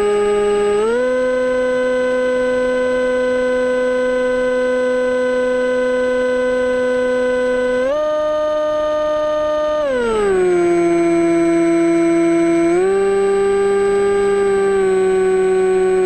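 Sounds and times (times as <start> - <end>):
electric motor and propeller whining: 0.0 - 16.0.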